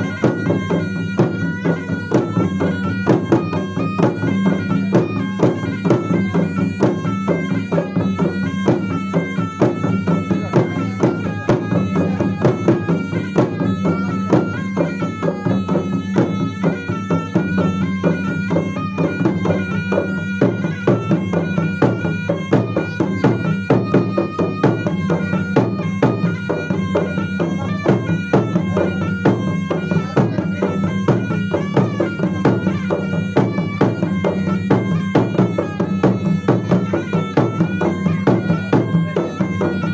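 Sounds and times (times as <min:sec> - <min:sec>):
drums beating fast rhythm: 0:00.0 - 0:39.9
reed wind instrument melody: 0:00.0 - 0:39.9.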